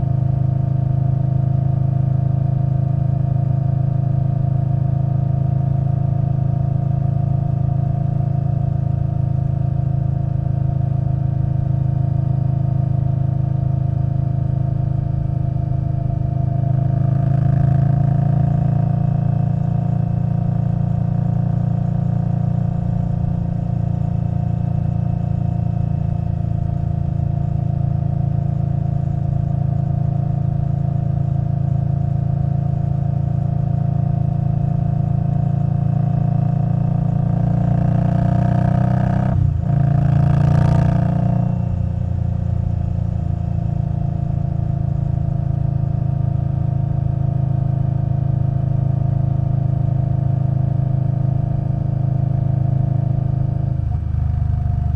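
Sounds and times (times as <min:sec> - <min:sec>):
motorcycle engine cruising and revving: 0:00.0 - 0:54.9.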